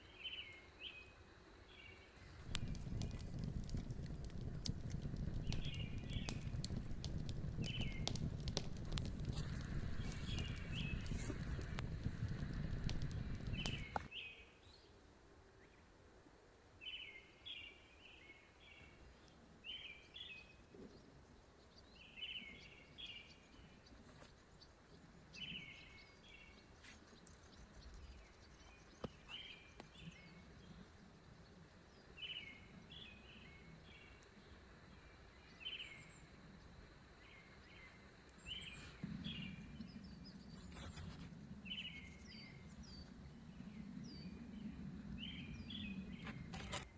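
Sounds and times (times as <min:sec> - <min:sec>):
faint outdoor hiss: 0:00.0 - 0:46.9.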